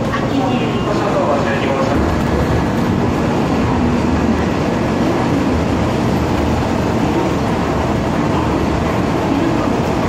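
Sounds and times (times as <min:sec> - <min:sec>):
train running noise: 0:00.0 - 0:10.0.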